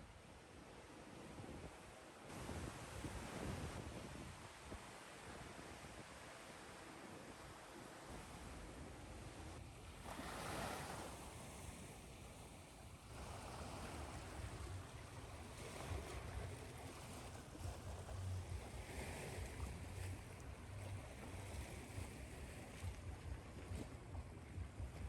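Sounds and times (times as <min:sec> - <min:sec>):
ocean waves washing in: 0:02.2 - 0:24.9.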